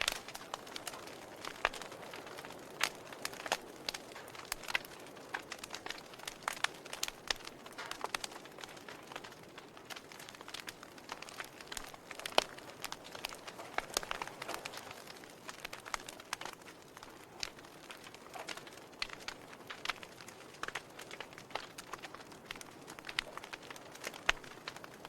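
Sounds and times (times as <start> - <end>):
log fire crackling: 0.0 - 25.0
soft hiss of fire: 0.0 - 25.0.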